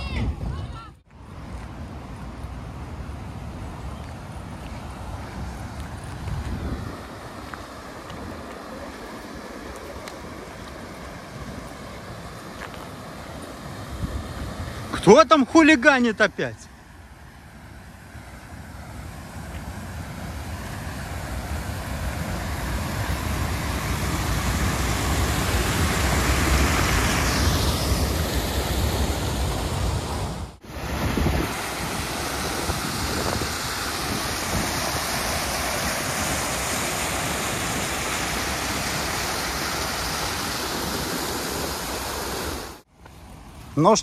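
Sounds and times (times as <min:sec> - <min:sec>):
waterfall rushing: 0:02.1 - 0:16.7, 0:17.9 - 0:42.9.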